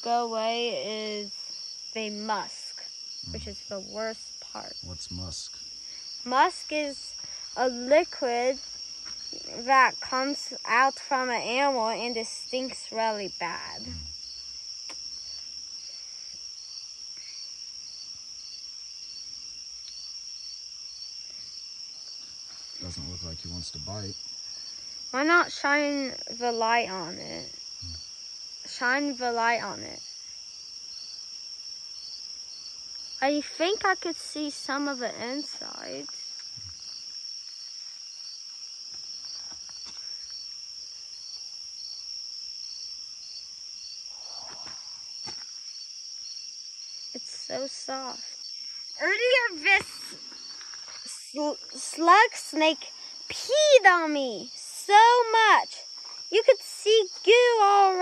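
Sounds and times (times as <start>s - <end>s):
insect chirping: 0.0s - 58.0s
insect high-pitched trill: 0.0s - 58.0s.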